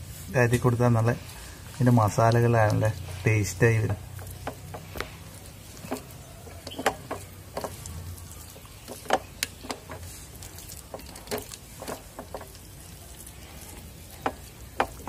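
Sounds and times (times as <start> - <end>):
fingers squelching wet paste: 0.6 - 15.0.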